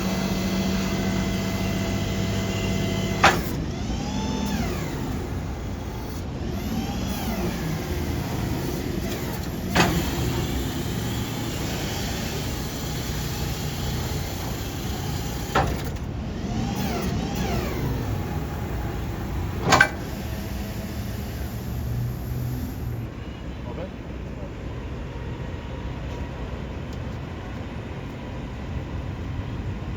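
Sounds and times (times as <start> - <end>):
diesel engine rumbling: 0.0 - 29.9.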